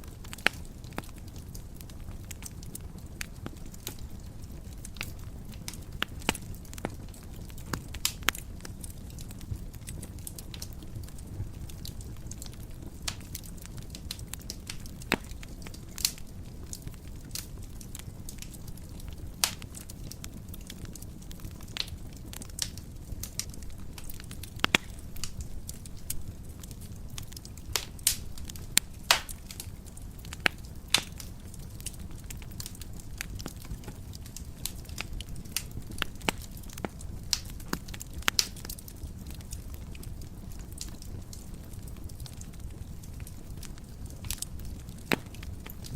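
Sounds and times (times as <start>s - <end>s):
fire crackling and popping: 0.0s - 45.9s
low fire rumble: 0.0s - 45.9s.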